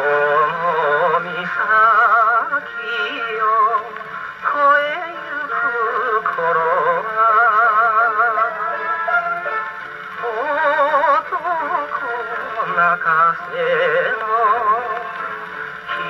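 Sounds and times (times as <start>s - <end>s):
man singing on old record: 0.0s - 16.0s.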